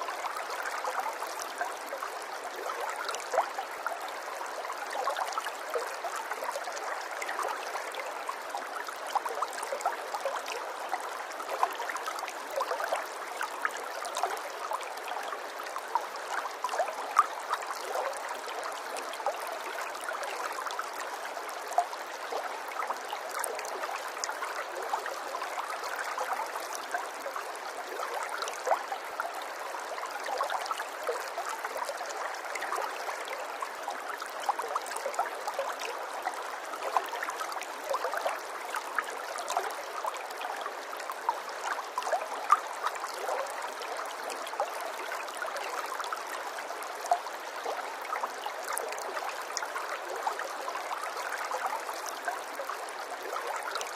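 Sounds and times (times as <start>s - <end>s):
stream trickling and burbling: 0.0s - 53.9s.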